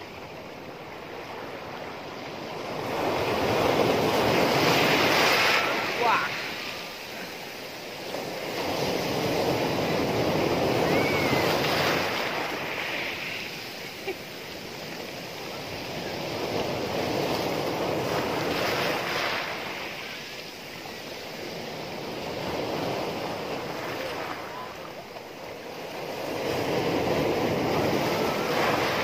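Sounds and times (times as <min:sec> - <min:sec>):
sea surf washing over pebbles: 0:00.3 - 0:29.0.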